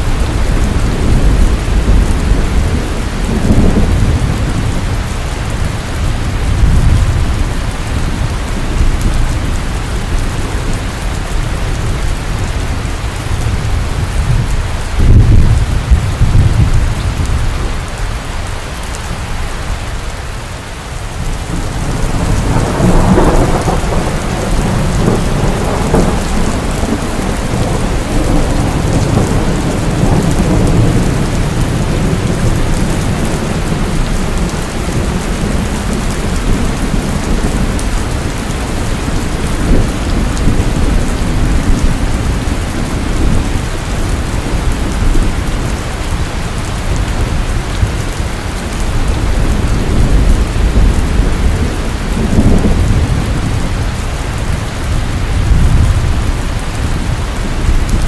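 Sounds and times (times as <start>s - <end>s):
thunder rolling: 0.0s - 10.8s, 13.4s - 17.7s, 21.2s - 58.0s
heavy rain pouring: 0.0s - 58.0s.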